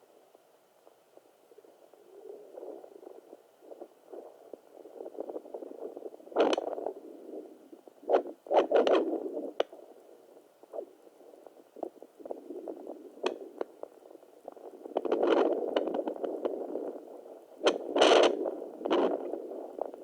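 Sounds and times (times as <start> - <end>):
scratchy crackles: 1.6 - 20.0.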